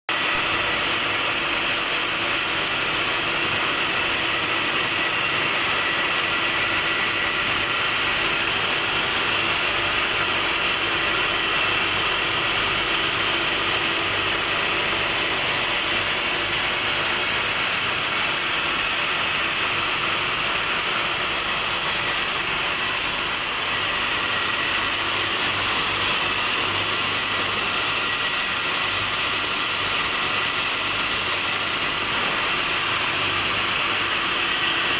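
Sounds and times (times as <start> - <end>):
extrusion machine running: 0.1 - 34.9.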